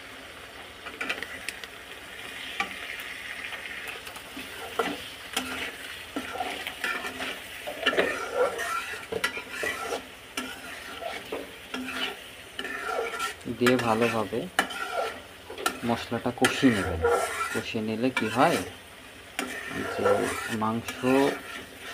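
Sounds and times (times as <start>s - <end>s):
oil sizzling: 0.0s - 21.9s
metal spatula scraping pan: 4.3s - 21.9s.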